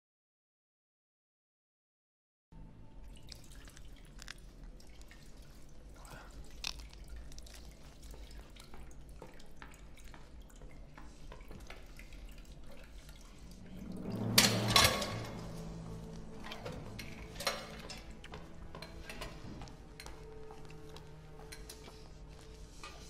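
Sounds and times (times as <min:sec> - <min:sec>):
low steady hum: 0:02.6 - 0:23.0.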